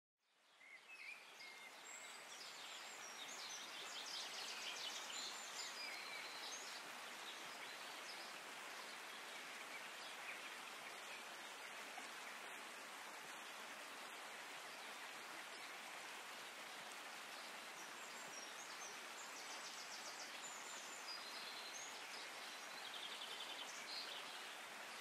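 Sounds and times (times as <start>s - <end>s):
stream flowing over rocks: 0.4s - 25.0s.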